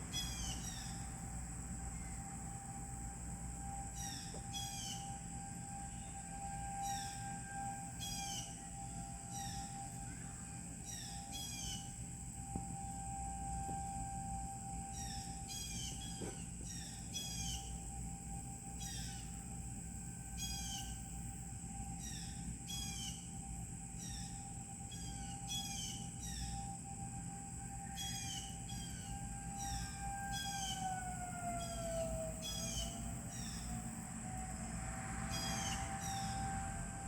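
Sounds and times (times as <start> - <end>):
distant tornado siren: 0.0 - 37.0
high-pitched drone: 0.0 - 37.0.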